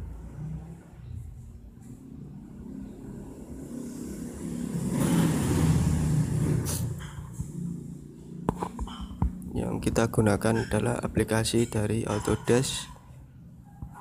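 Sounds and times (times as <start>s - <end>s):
motor vehicle passing: 0.0s - 14.0s.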